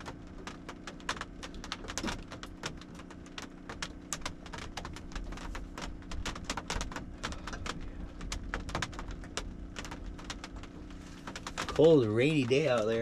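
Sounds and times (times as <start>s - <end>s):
low steady hum: 0.0s - 13.0s
rain drops ticking on roof: 0.0s - 13.0s.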